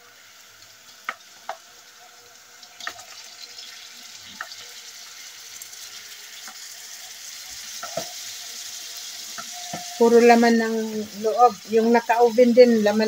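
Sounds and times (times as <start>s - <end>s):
pot sizzling: 0.0s - 13.0s.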